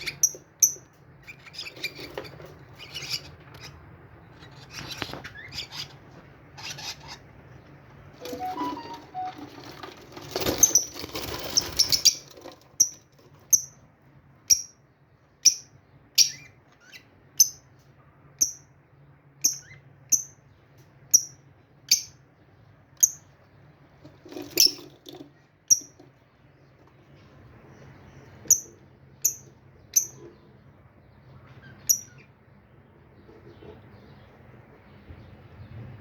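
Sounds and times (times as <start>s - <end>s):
small birds chirping: 0.0s - 9.3s, 14.4s - 36.0s.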